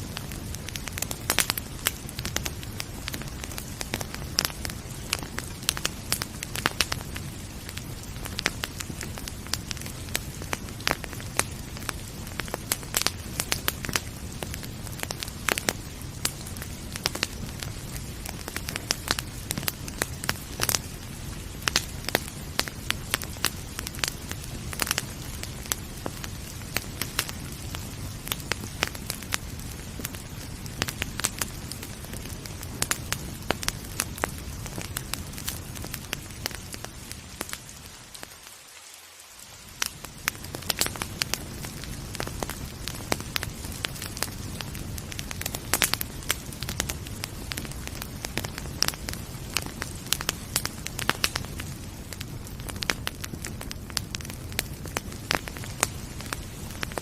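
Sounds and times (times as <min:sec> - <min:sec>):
rain hissing: 0:00.0 - 0:57.0
wood fire crackling and popping: 0:00.0 - 0:57.0.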